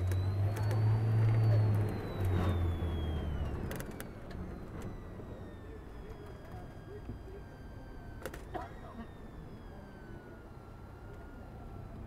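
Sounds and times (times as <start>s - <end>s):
bus engine hum: 0.0s - 12.0s
faint high whine: 0.0s - 12.0s.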